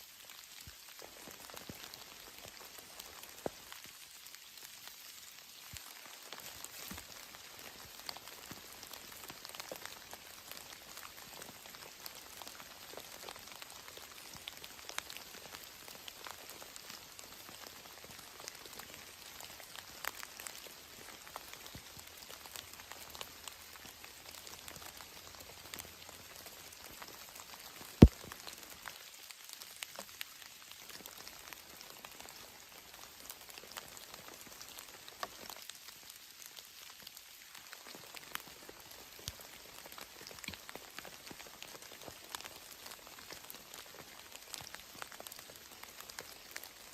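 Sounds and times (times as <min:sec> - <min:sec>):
steady rain with drop ticks: 0:00.0 - 0:46.9.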